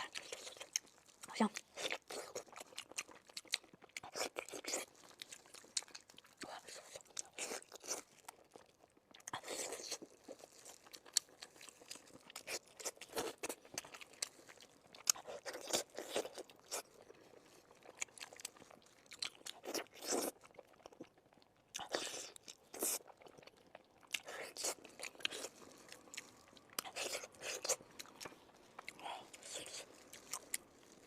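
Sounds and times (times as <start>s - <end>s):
crunching bones and chewing: 0.0s - 31.0s.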